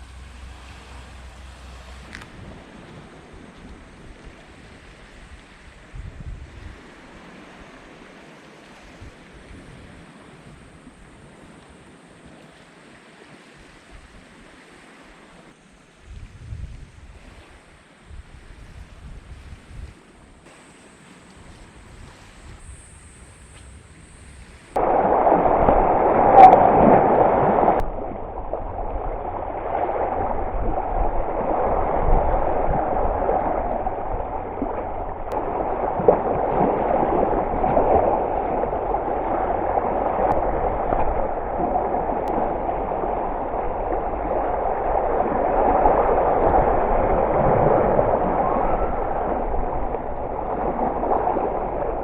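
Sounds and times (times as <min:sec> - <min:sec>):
small waves lapping at shoreline: 0:00.0 - 0:52.0.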